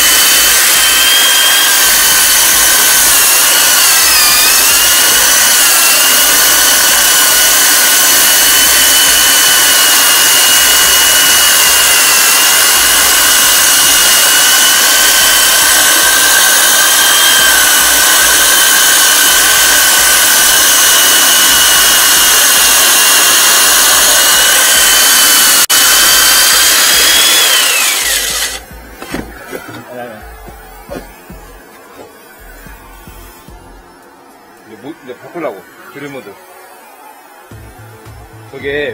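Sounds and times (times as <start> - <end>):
core drill cutting brick: 0.0 - 38.8
vacuum cleaner sucking: 0.0 - 38.9.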